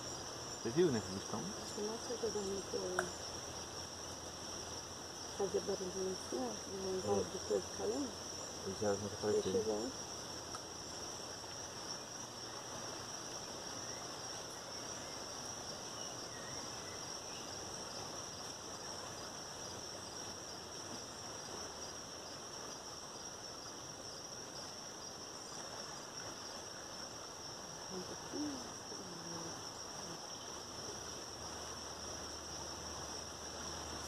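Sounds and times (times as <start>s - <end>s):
insects buzzing: 0.0s - 34.0s.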